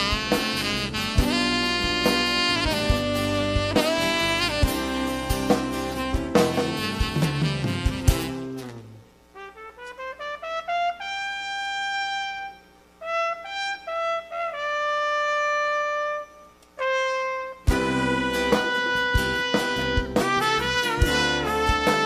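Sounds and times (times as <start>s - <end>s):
brass band and drums: 0.0s - 22.0s
trumpets playing: 0.0s - 22.0s.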